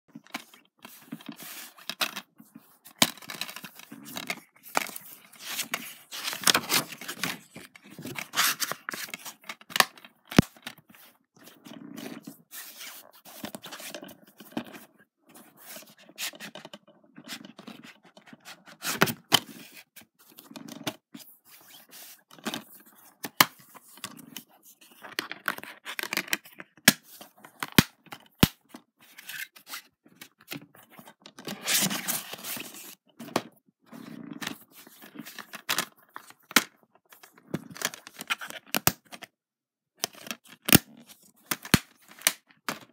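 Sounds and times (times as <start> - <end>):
plastic cases scraping and clicking: 0.1 - 39.3.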